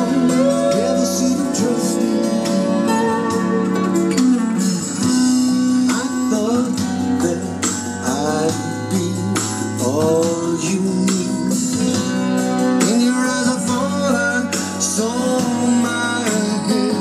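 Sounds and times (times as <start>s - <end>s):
guitar accompaniment: 0.0s - 17.0s.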